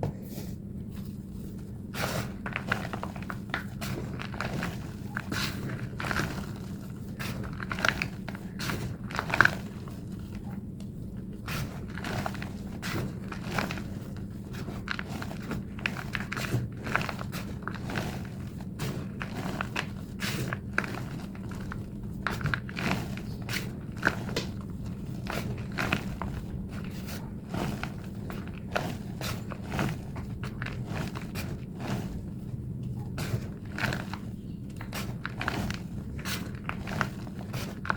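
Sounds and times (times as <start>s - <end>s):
low steady hum: 0.0s - 37.9s
chalk crunching by hand: 0.3s - 37.9s.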